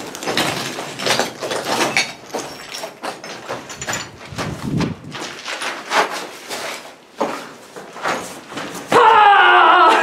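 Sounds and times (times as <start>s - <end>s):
footsteps over debris: 0.0s - 8.9s.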